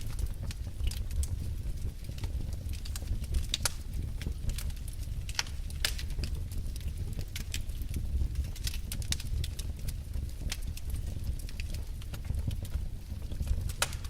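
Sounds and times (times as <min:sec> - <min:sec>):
crackles of burning logs: 0:00.0 - 0:14.0
sharp fire pops: 0:00.0 - 0:14.0
wood fire rumbling: 0:00.0 - 0:14.0.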